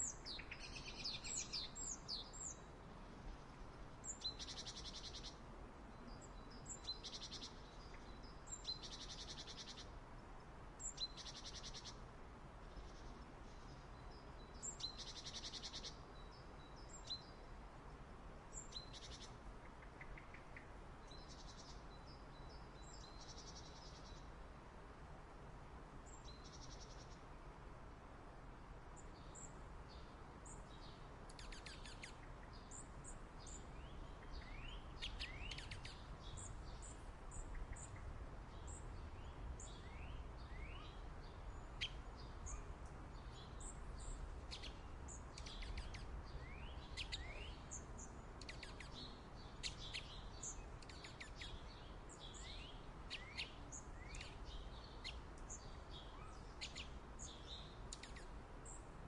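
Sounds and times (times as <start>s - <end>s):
songbirds chirping and twittering: 0.0s - 59.0s.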